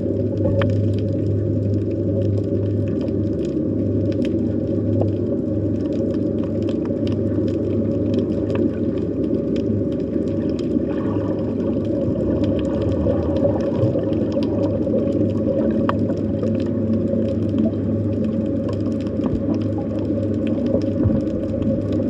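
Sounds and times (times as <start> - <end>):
constant low hum: 0.0 - 22.0
underwater low rumble: 0.0 - 22.0
faint underwater clicks: 0.2 - 22.0.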